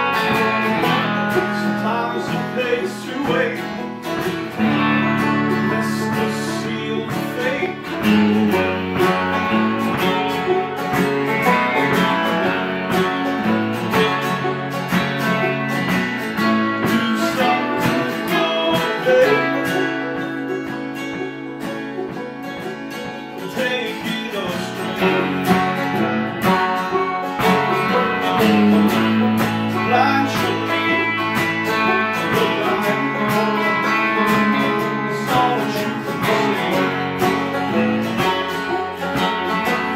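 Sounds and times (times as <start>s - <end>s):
electric guitar: 0.0s - 39.9s
picked banjo: 0.0s - 39.9s
strummed acoustic guitar: 0.0s - 39.9s.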